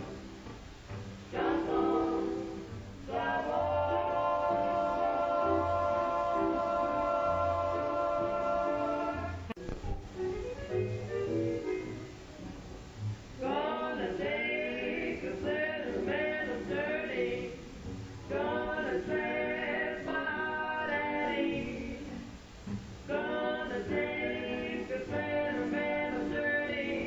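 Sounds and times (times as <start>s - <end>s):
voices singing in harmony: 1.3s - 9.6s, 13.4s - 27.0s.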